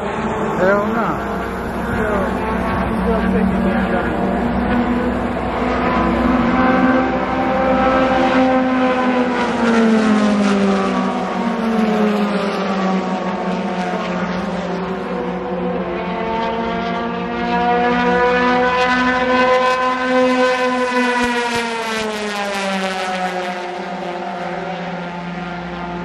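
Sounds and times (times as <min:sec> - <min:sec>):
another car engine: 0:00.0 - 0:26.0
race car engine passing: 0:00.0 - 0:26.0.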